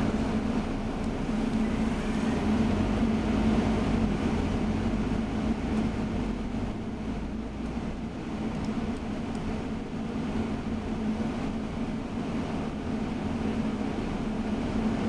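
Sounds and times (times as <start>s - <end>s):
bus engine hum: 0.0s - 15.0s
road rumble: 0.0s - 15.0s.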